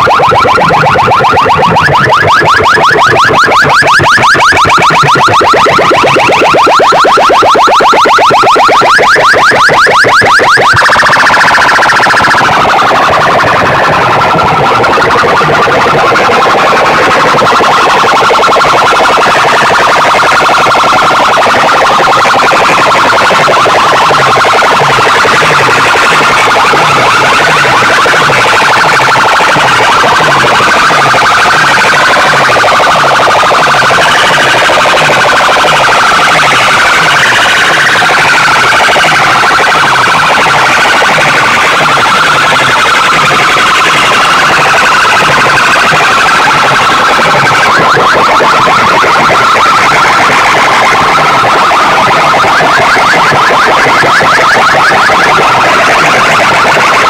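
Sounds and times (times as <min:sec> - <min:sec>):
pulsing electronic siren tones: 0:00.0 - 0:57.0.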